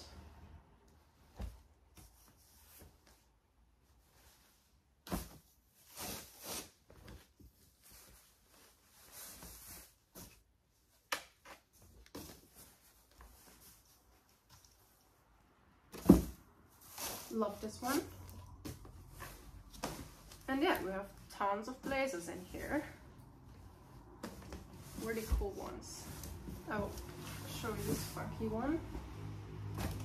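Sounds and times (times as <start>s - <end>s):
fabric rustling: 1.0s - 30.0s.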